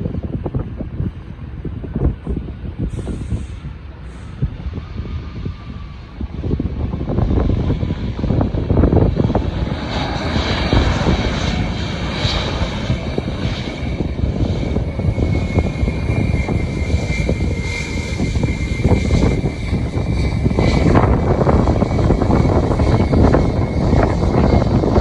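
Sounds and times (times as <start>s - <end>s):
jet engine high whine: 0.0s - 25.0s
jet engines rumbling: 0.0s - 25.0s.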